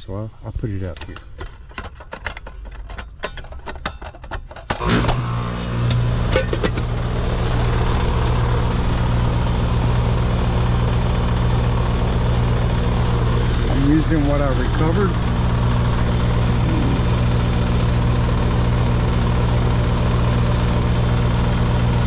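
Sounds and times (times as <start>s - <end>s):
air conditioning unit humming: 0.0s - 22.0s.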